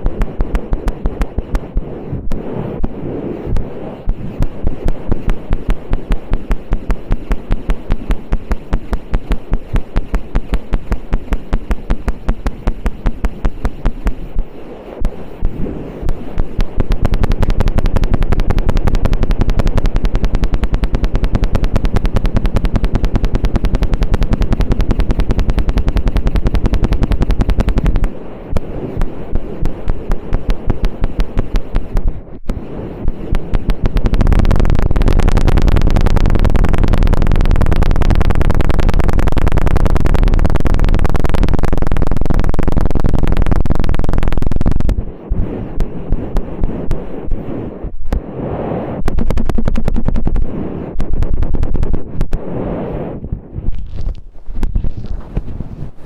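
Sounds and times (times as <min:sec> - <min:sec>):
ear pick scratching microphone: 0:00.0 - 0:56.0.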